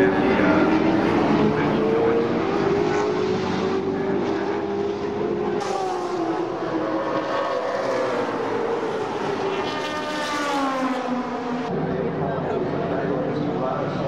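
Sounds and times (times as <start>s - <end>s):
racing car engines: 0.0s - 14.0s.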